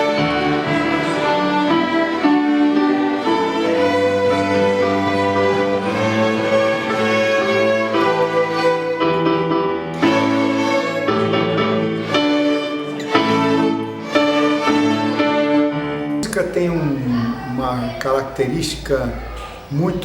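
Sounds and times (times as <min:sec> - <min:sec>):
lower strings sustained chords: 0:00.0 - 0:17.5
bowed violins: 0:00.0 - 0:18.0.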